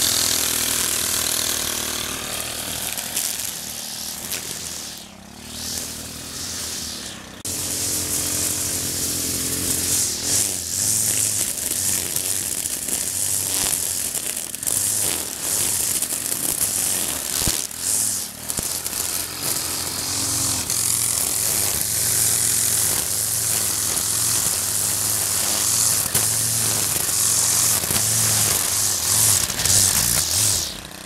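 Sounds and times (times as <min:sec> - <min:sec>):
string trimmer engine running: 0:00.0 - 0:31.0
trimmer line hissing through grass: 0:00.0 - 0:31.0.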